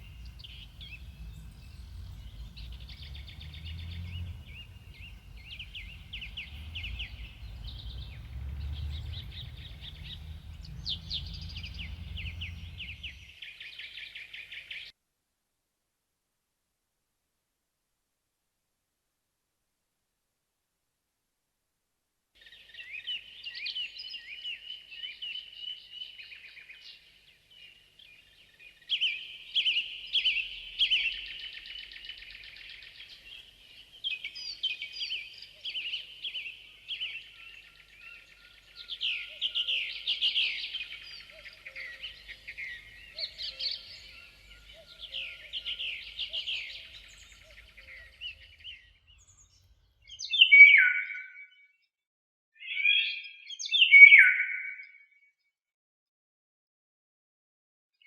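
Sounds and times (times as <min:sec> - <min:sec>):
songbird singing: 0:00.0 - 0:14.9, 0:22.4 - 0:51.8, 0:52.6 - 0:55.1.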